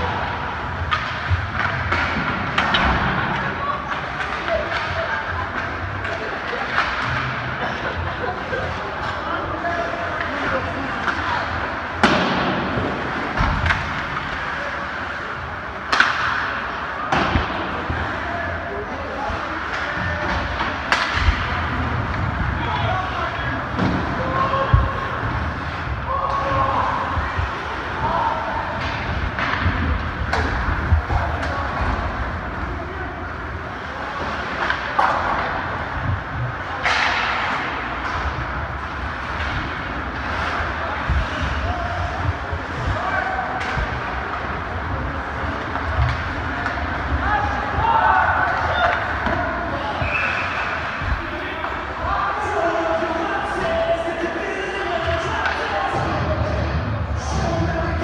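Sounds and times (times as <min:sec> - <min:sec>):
crowd and rink noise: 0:00.0 - 0:58.0
echoing arena noise: 0:00.0 - 0:58.0.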